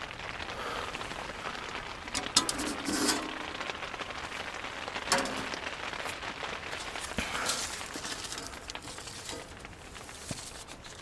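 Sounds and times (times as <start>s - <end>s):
rain on tent fabric: 0.0s - 11.0s.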